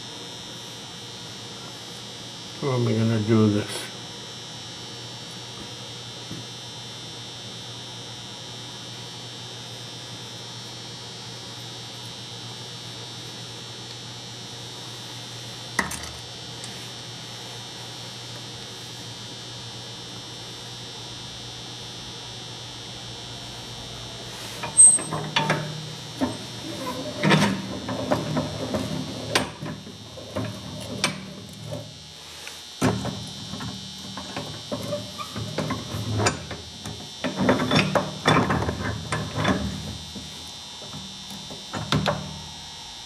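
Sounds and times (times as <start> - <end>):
steady electrical hum: 0.0 - 43.0.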